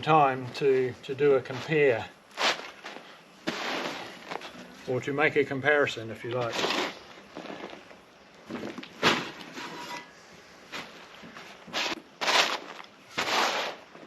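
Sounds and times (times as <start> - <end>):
soil being dug and tipped: 0.2 - 5.1, 6.2 - 14.0.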